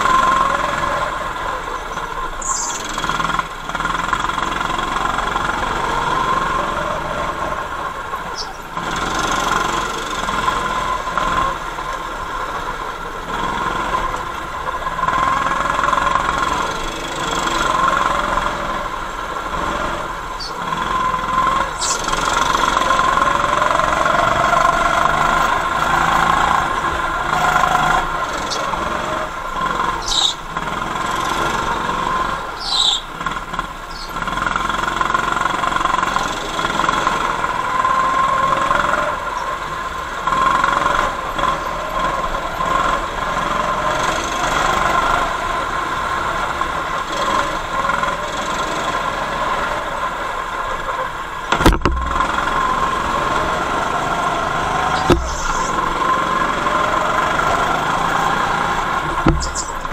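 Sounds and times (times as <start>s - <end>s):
go-kart motor drone: 0.0s - 59.9s.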